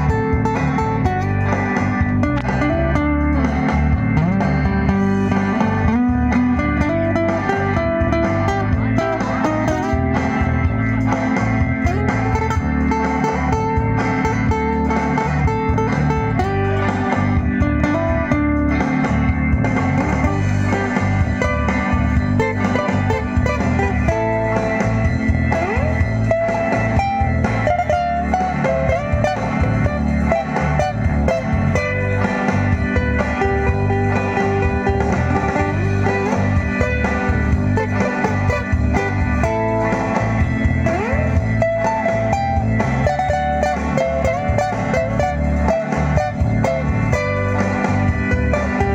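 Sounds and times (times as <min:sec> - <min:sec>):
instrumental guitar music: 0:00.0 - 0:48.9.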